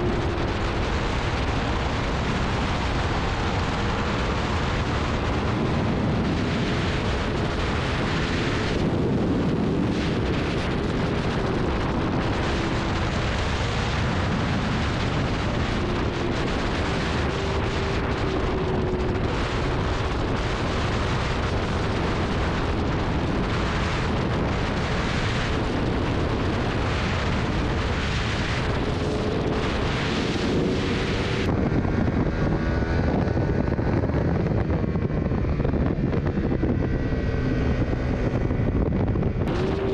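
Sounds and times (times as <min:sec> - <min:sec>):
motorbike engine at speed: 0:00.0 - 0:39.9
wind rush on microphone: 0:00.0 - 0:39.9.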